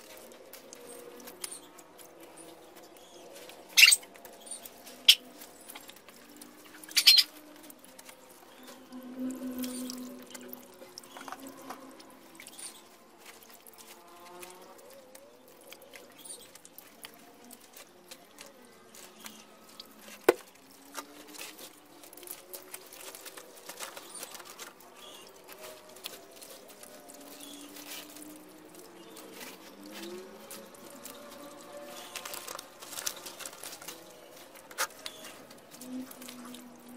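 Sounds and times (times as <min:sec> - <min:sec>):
faint squeaky gliding tones: 0:00.0 - 0:36.9.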